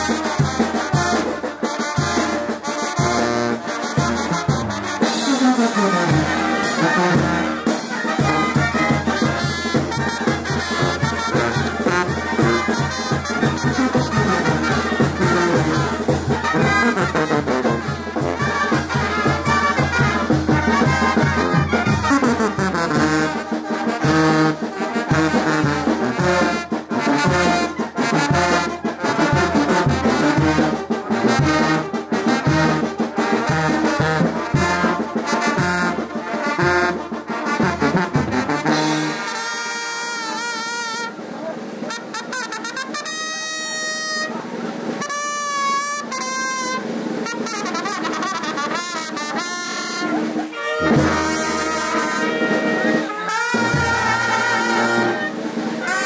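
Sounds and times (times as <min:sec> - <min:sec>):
brass band melody: 0:00.0 - 0:56.0
regular drum beat: 0:00.0 - 0:56.0
tuba bass line: 0:02.1 - 0:39.4, 0:47.5 - 0:56.0.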